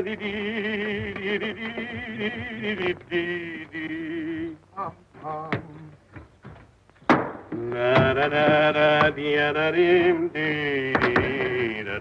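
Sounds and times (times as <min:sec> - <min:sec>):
man singing with vibrato: 0:00.0 - 0:06.1, 0:07.5 - 0:12.0.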